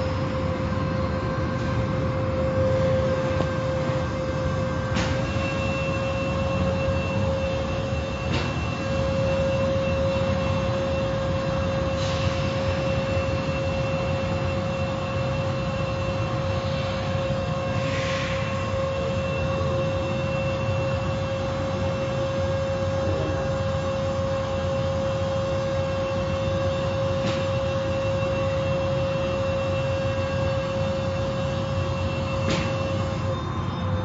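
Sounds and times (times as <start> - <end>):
car wash machinery humming: 0.0 - 34.0.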